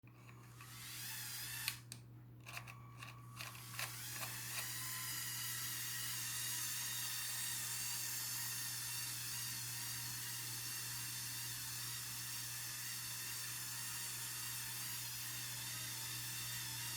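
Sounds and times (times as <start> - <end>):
motor whine with gear noise: 0.1 - 16.9.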